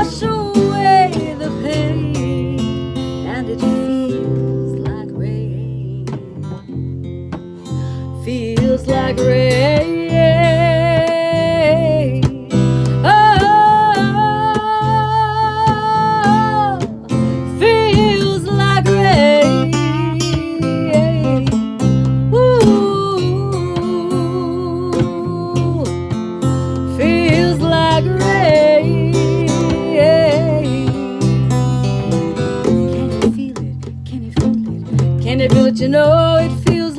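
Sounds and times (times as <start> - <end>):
woman singing wordless held notes: 0.0 - 6.3, 8.2 - 16.9, 17.5 - 21.5, 22.3 - 25.9, 26.9 - 31.5, 33.0 - 34.5, 35.2 - 36.9
bass line: 0.0 - 36.9
strummed acoustic guitar: 0.0 - 36.9.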